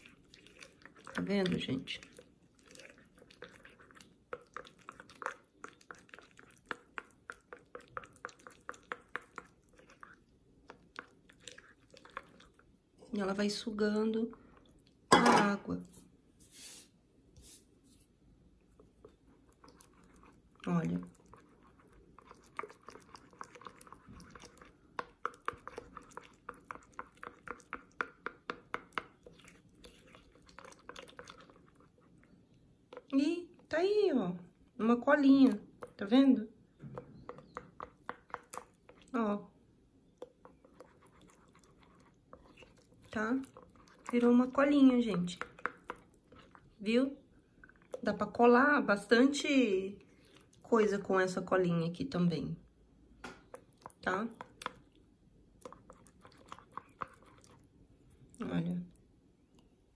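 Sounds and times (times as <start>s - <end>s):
stick mashing wet paste: 0.0s - 14.8s, 18.6s - 51.5s, 53.2s - 58.8s.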